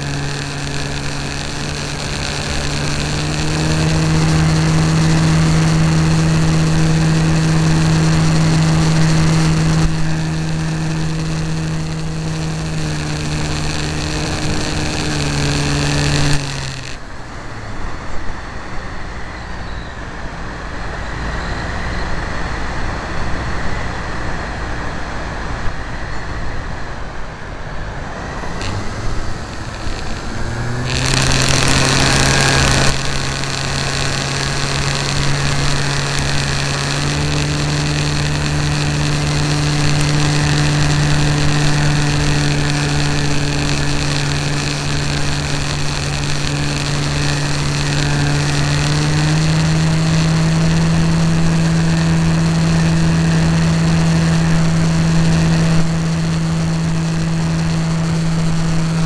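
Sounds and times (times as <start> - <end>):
model aircraft engine: 0.0 - 59.0.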